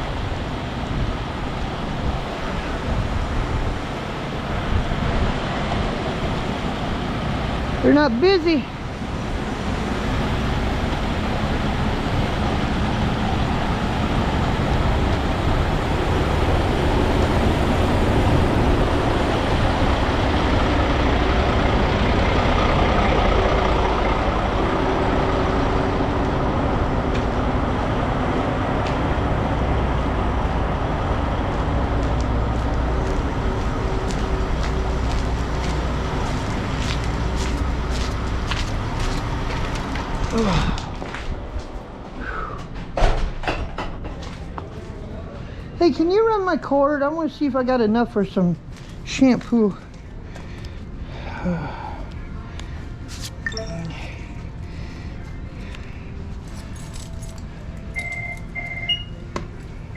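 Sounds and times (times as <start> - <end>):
heavy trucks and road traffic: 0.0 - 59.9.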